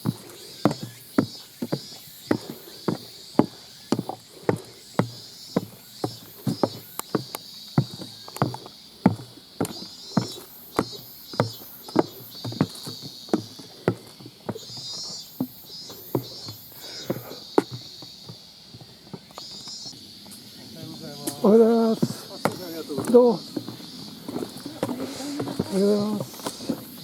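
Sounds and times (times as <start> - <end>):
footsteps on trail: 0.0 - 27.0
high insect drone: 0.0 - 27.0.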